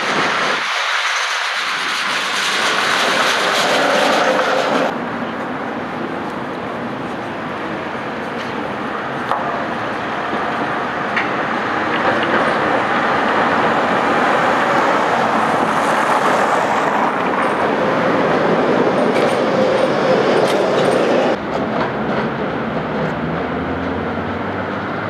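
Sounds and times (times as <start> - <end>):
distant tram: 0.0 - 25.0
tram running over track: 0.0 - 25.0.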